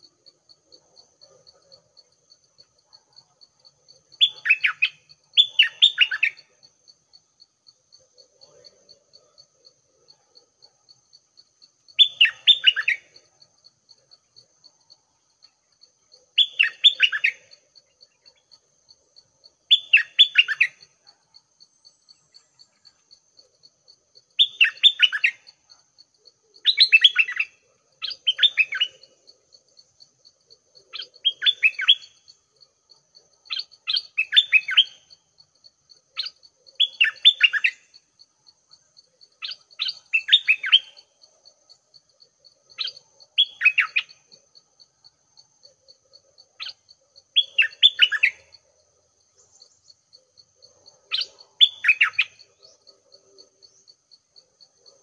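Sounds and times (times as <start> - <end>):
songbird calling: 3.4 - 6.9, 10.9 - 35.2, 35.9 - 38.1, 38.7 - 41.2, 42.0 - 44.9, 45.6 - 55.0.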